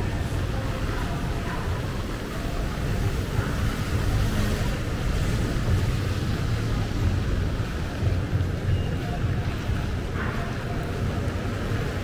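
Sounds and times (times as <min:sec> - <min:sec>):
rain hissing on wet street: 0:00.0 - 0:12.0
wind rumbling on microphone: 0:00.0 - 0:12.0.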